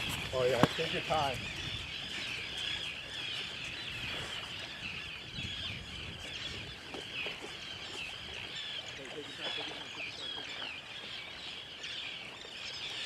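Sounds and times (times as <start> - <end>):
seabirds calling: 0.0 - 13.0.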